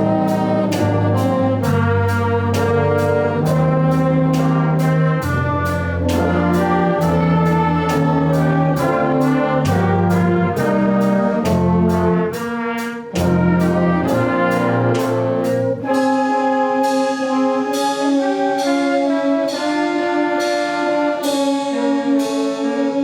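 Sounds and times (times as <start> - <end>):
brass ensemble playing chords: 0.0 - 23.0
steady percussion beat: 0.0 - 23.0.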